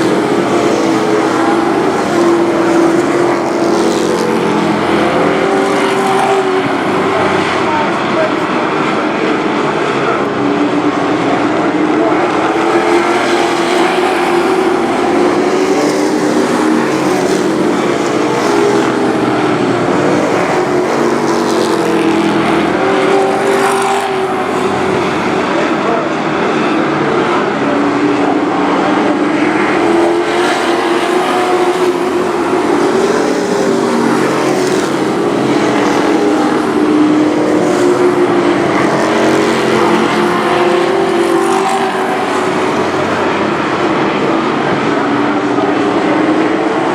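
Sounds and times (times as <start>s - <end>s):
race truck engines: 0.0s - 46.9s.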